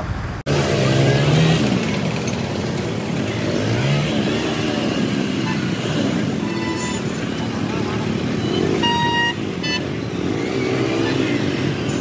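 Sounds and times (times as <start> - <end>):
road noise: 0.0 - 12.0
vehicle engine revving: 0.5 - 12.0.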